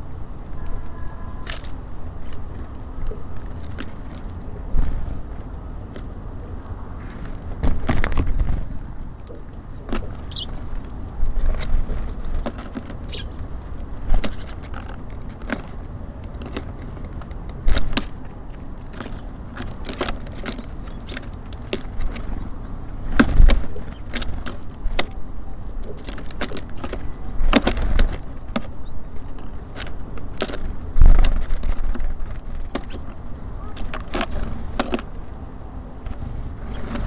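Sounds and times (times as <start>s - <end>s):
birds pecking at a feeder: 0.0s - 37.0s.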